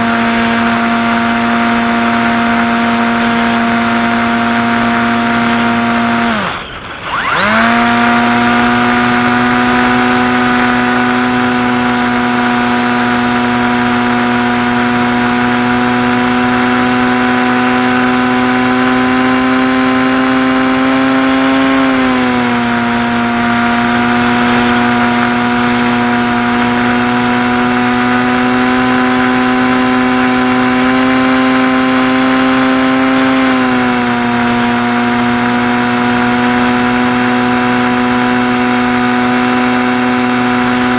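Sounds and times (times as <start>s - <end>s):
model plane motor buzzing whine: 0.0s - 40.9s.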